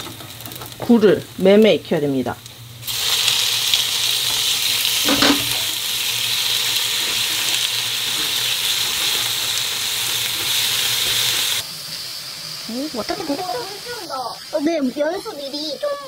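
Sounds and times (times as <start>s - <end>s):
oysters sizzling in a pan: 0.0s - 16.0s.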